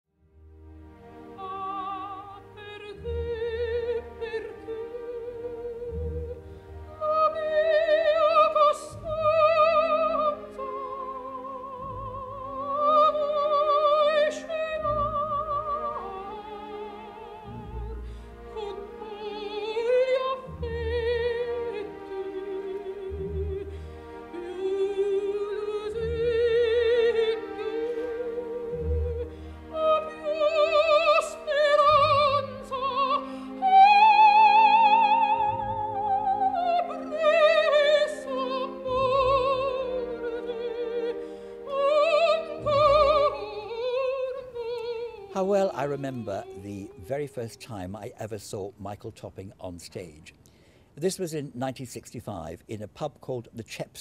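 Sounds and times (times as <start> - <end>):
operatic singing: 0.9 - 49.0.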